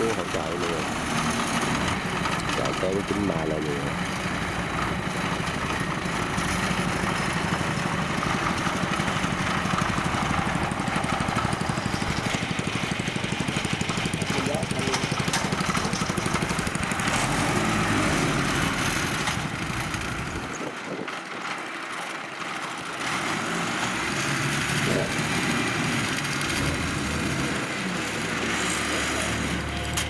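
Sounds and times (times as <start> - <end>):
farm machinery engine rumbling: 0.0 - 30.0.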